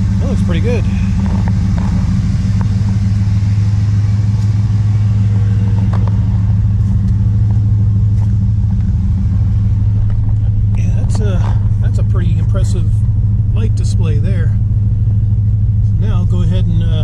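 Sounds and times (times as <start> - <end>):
pickup truck engine idling: 0.0 - 17.0.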